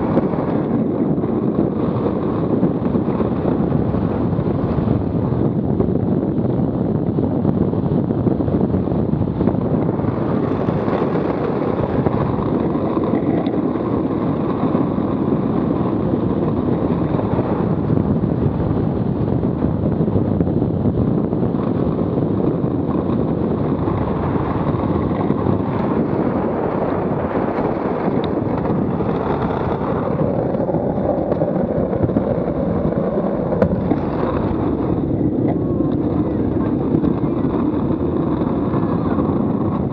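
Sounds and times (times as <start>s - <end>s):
wheels rolling on asphalt: 0.0s - 39.9s
wind on microphone: 0.0s - 39.9s.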